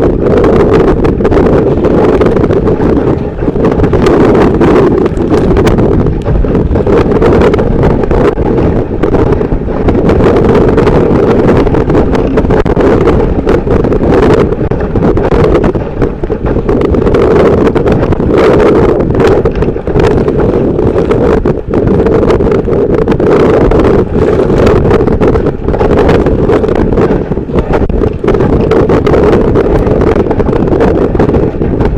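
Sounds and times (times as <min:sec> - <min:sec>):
strong wind buffeting microphone: 0:00.0 - 0:31.9.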